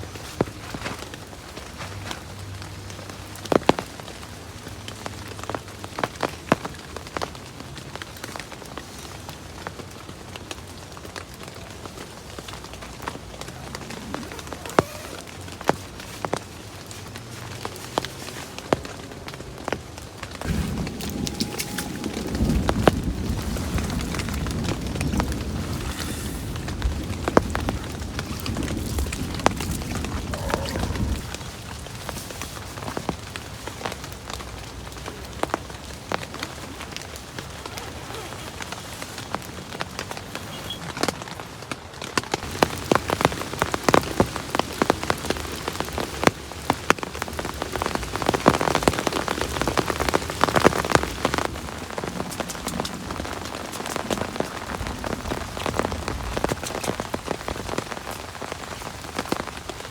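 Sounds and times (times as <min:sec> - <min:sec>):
raindrops tapping a surface: 0:00.0 - 0:59.9
steady rain: 0:00.0 - 0:59.9.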